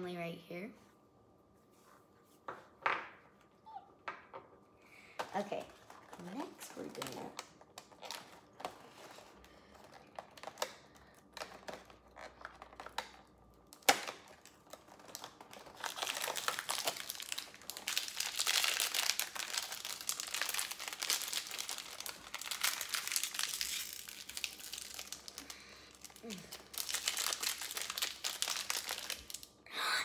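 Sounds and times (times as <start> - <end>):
packaging crinkling and tearing: 5.3 - 29.6.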